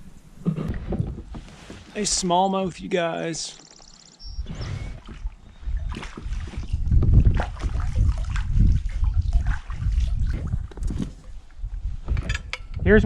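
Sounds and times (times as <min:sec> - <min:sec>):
wind rumbling on microphone: 0:00.0 - 0:01.9, 0:04.2 - 0:13.0
water splashing against hull: 0:00.4 - 0:12.2.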